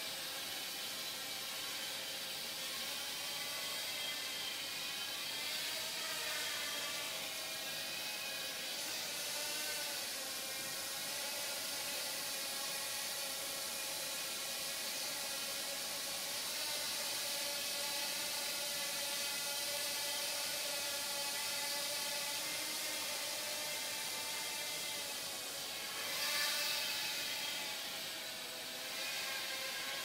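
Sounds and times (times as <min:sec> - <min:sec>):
quadcopter hovering whine: 0:00.0 - 0:30.0.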